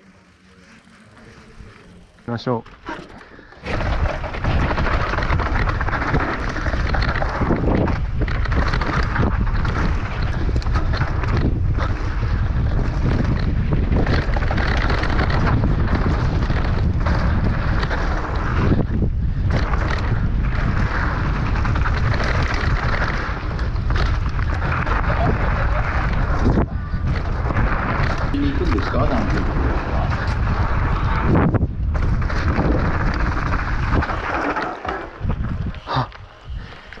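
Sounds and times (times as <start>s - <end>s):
bike rattling over rough ground: 0.0s - 37.0s
wind buffeting microphone: 3.6s - 37.0s.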